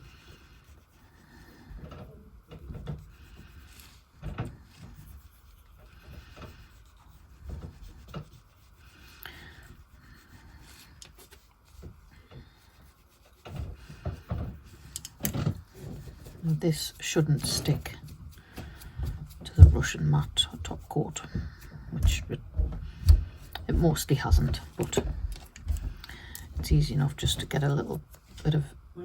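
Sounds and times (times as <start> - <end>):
fingertip rubbing on nails: 0.0 - 25.9.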